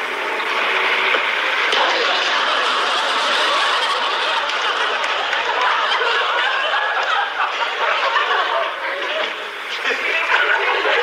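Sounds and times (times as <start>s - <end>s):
audience laughter: 0.3s - 11.0s.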